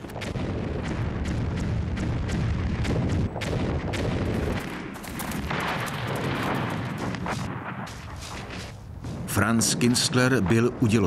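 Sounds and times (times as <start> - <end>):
gunshots: 0.0 - 10.8
low rumble of artillery booms: 0.0 - 11.0.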